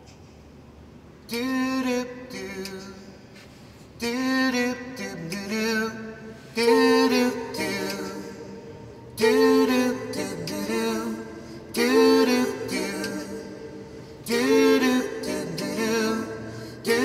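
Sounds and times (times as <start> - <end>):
slow song with solo voice: 1.2 - 17.0.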